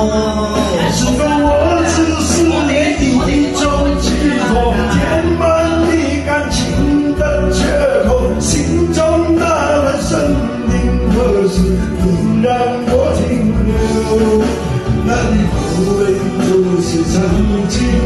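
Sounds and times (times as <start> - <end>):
man singing karaoke: 0.0 - 18.0
pop backing track: 0.0 - 18.0.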